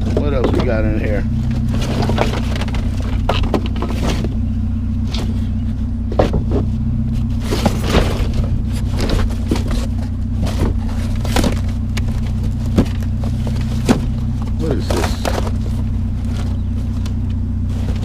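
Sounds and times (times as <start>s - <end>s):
scrap metal clanking: 0.0s - 18.0s
vehicle engine idling: 0.0s - 18.0s.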